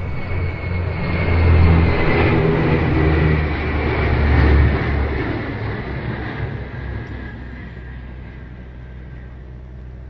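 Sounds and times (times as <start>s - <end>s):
jet engines of aircraft: 0.0s - 10.0s
turboprop aircraft drone: 0.0s - 10.0s.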